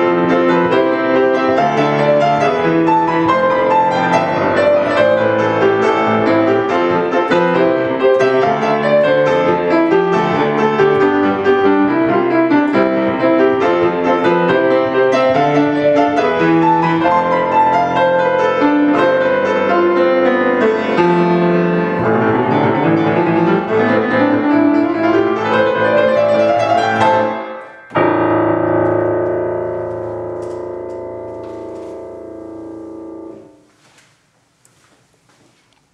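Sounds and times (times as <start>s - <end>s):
solo piano playing: 0.0s - 33.6s.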